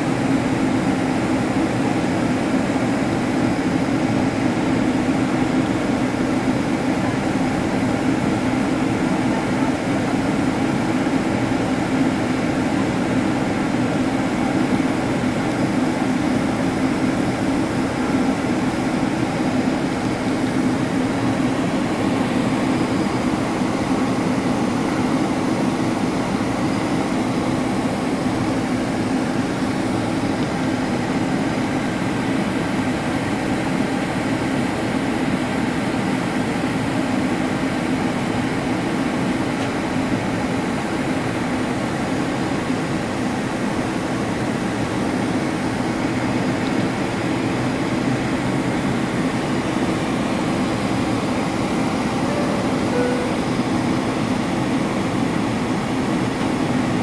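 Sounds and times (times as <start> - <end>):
airliner cabin drone: 0.0 - 57.0.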